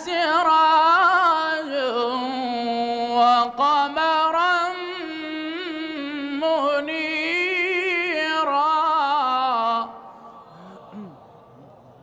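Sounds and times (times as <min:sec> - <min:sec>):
person reciting melodically: 0:00.0 - 0:11.2.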